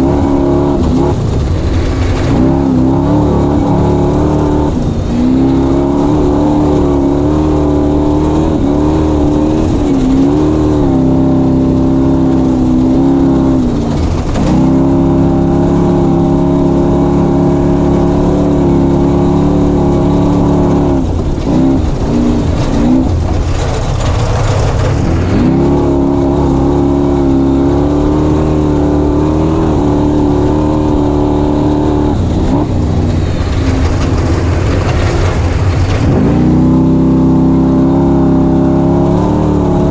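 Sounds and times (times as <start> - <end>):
engine running hard under load: 0.0 - 39.9.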